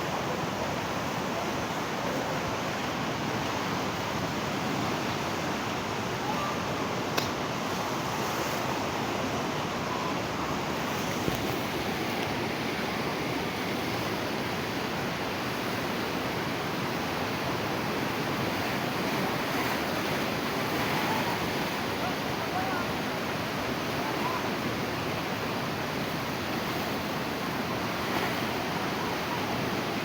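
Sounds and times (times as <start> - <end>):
rushing floodwater: 0.0 - 30.0.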